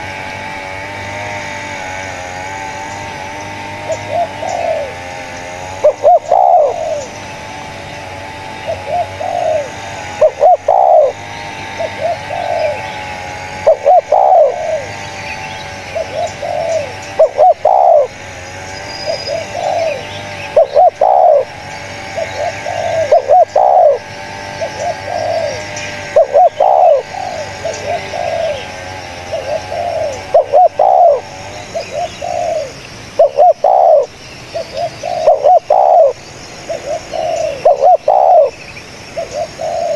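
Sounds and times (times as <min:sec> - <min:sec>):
faint birds chirping: 0:00.0 - 0:39.9
dove cooing: 0:00.8 - 0:39.9.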